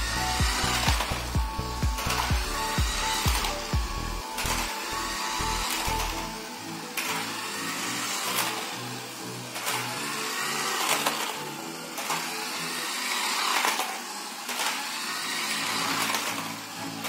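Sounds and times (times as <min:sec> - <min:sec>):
background music with steady beat: 0:00.0 - 0:17.0
toy car electric motor whirring: 0:00.0 - 0:17.0.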